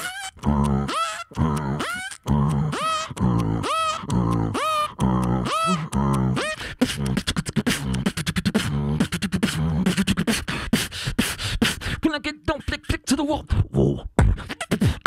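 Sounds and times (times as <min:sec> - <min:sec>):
beatboxing through microphone: 0:00.0 - 0:15.0.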